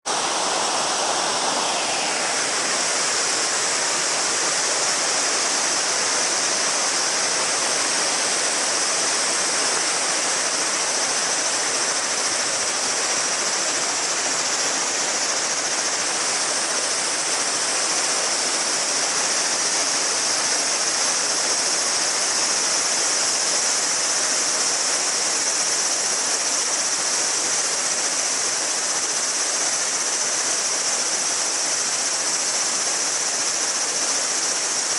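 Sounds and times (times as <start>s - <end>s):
cicadas buzzing: 0.1s - 34.9s
river babbling over rocks: 0.1s - 34.9s.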